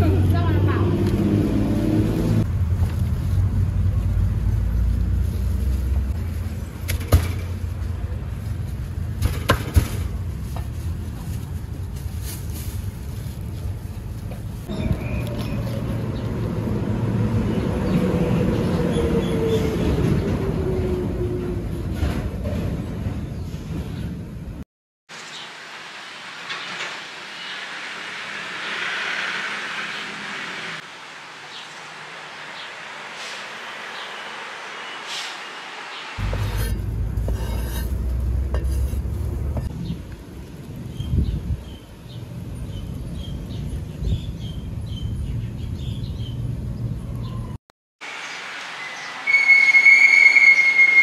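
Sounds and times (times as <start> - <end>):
traffic rumble: 0.0 - 24.6, 25.5 - 49.3
wind: 0.0 - 51.0.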